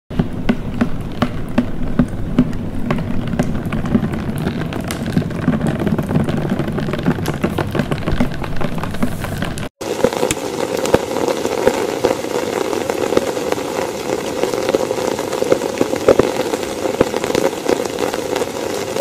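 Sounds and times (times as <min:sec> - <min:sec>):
crackling and clicking: 0:00.1 - 0:19.0.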